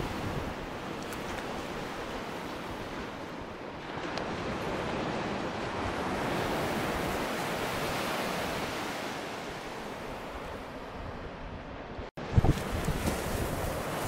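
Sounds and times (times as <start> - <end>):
surf washing onto shore: 0.0 - 10.7, 12.2 - 14.0
wind buffeting microphone: 0.0 - 14.0.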